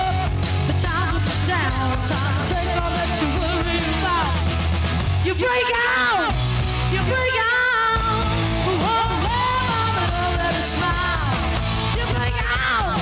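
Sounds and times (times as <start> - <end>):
woman singing lead: 0.0 - 4.4, 5.2 - 13.0
rock band playing: 0.0 - 13.0.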